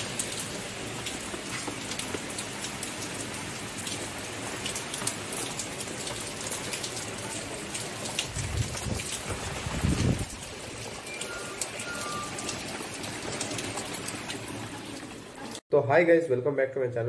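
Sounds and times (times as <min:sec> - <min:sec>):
heavy rain on pavement: 0:00.0 - 0:15.6.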